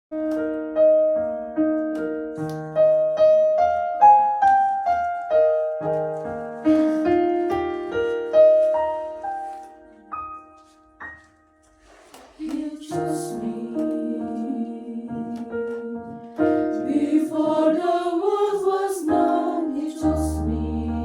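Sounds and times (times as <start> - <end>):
piano playing a hymn: 0.1 - 21.0.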